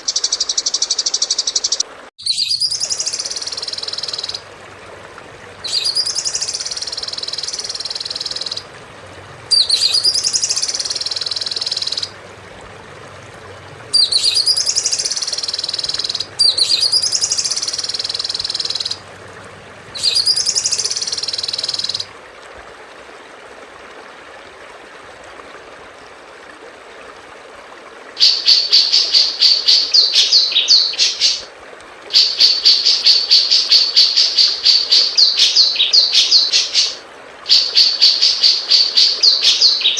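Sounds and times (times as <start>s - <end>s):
songbird song: 0.0s - 22.2s, 28.2s - 39.9s.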